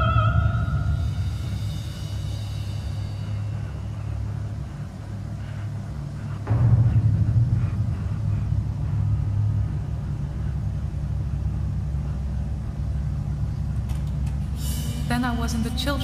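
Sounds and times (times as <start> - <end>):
orchestra low sustained drone: 0.0 - 16.0.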